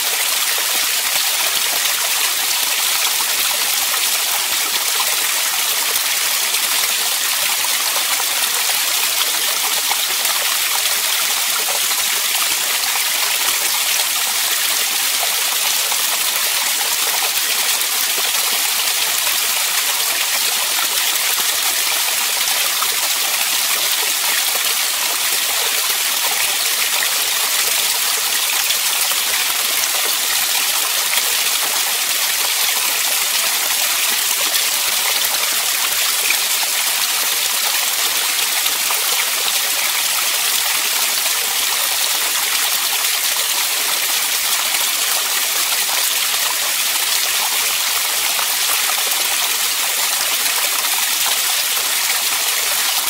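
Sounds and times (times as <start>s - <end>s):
small waterfall splashing into pool: 0.0s - 53.0s.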